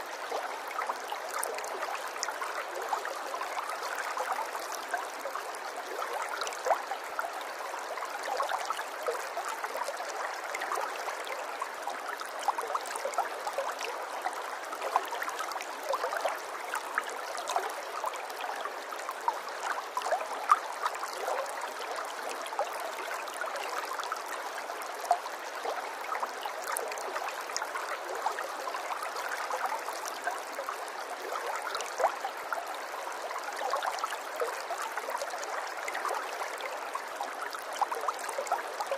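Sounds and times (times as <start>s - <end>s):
water babbling: 0.0s - 38.9s.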